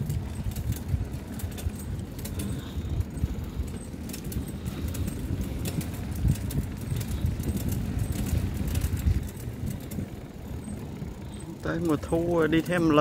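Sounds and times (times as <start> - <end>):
bicycle tyres rumbling on boards: 0.0 - 13.0
bike rattling clicks: 0.0 - 13.0.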